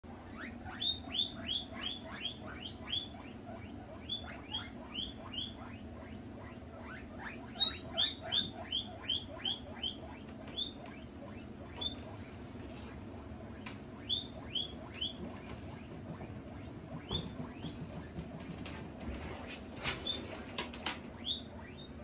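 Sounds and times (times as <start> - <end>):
guinea pig wheeking: 0.1 - 22.0.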